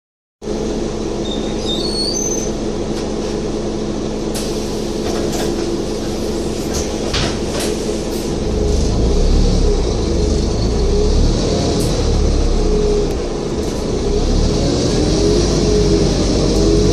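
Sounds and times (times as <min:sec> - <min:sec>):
diesel bus engine idling: 0:00.4 - 0:16.9.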